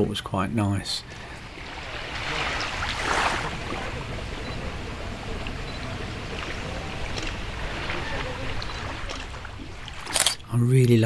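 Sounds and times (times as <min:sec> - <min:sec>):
low rush of sea: 0:00.0 - 0:10.6
breeze: 0:00.7 - 0:11.0
small waves lapping on sand: 0:01.0 - 0:10.3.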